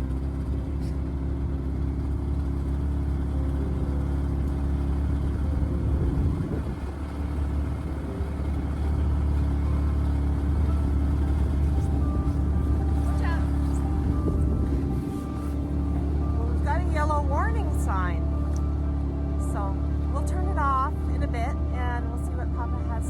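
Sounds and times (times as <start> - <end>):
snowmobile engine idling: 0.0 - 23.0.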